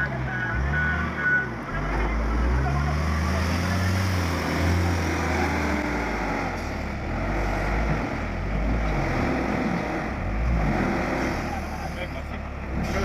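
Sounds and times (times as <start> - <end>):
heavy vehicle engine droning: 0.0 - 13.0.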